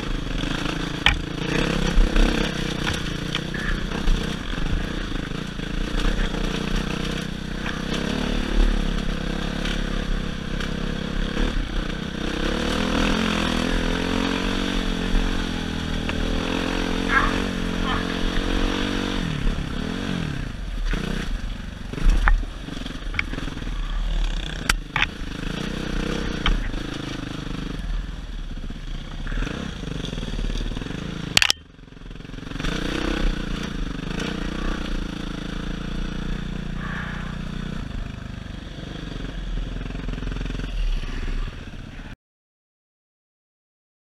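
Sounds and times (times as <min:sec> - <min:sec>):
dirt bike engine revving: 0:00.0 - 0:42.2.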